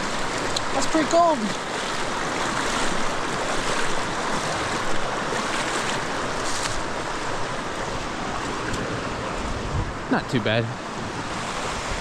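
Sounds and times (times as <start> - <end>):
creek rapids rushing: 0.0 - 12.0.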